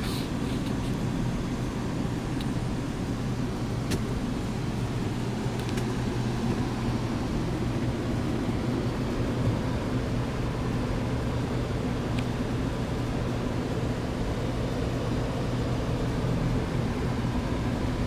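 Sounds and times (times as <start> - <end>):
hvac unit humming: 0.0 - 18.0.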